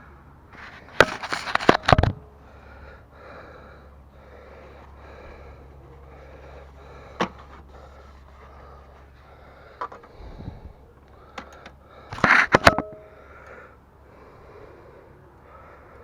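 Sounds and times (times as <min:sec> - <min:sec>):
person breathing close to microphone: 0:02.3 - 0:16.0.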